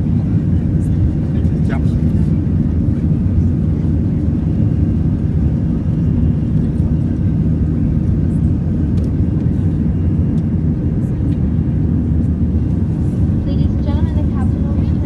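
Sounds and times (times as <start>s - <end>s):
jet engine cabin drone: 0.0s - 15.0s.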